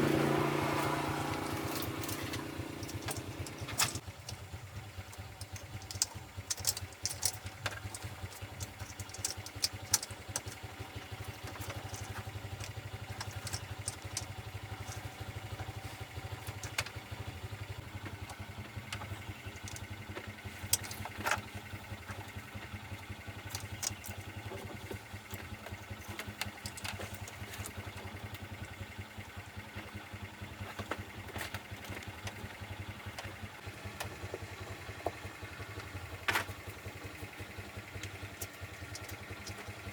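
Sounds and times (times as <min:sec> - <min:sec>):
engine idling: 0:00.0 - 0:39.9
sharp metallic clicks and knocks: 0:00.8 - 0:28.9, 0:29.7 - 0:39.9.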